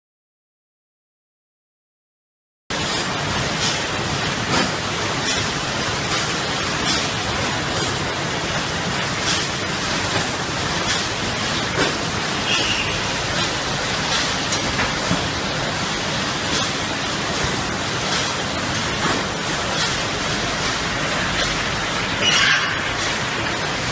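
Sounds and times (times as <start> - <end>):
packaging machine hissing: 2.8 - 22.2.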